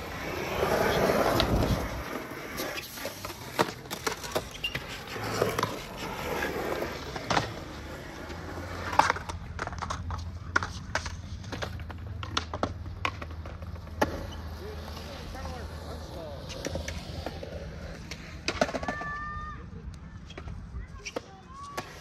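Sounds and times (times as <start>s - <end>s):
skateboard wheels rolling on concrete: 0.0s - 22.0s
skateboards clacking on ground: 0.0s - 22.0s.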